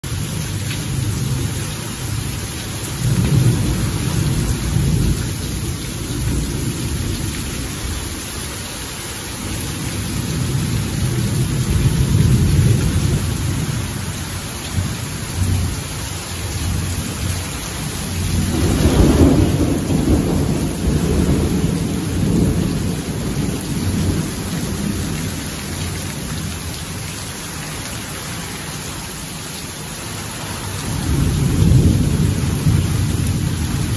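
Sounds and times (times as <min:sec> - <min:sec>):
heavy rain on concrete: 0:00.0 - 0:33.9
thunder rumbling: 0:00.3 - 0:08.4, 0:09.5 - 0:27.0, 0:30.6 - 0:33.9.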